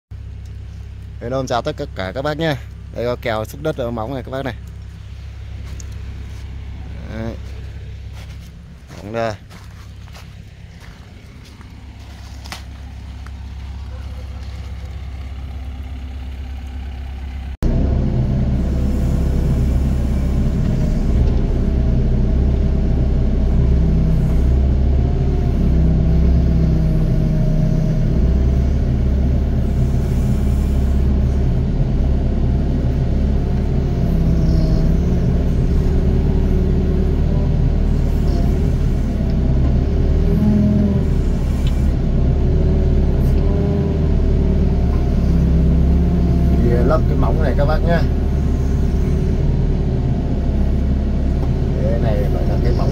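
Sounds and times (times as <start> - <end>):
excavator diesel engine under load: 0.1 - 52.9.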